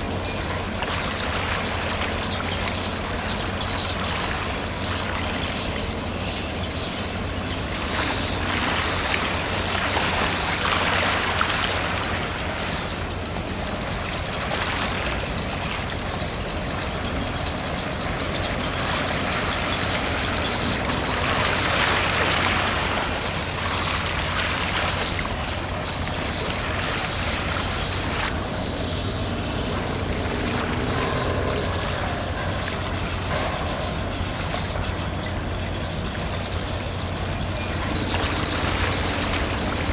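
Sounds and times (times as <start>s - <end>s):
ship engine drone: 0.0s - 39.9s
water rushing in wake: 0.0s - 39.9s.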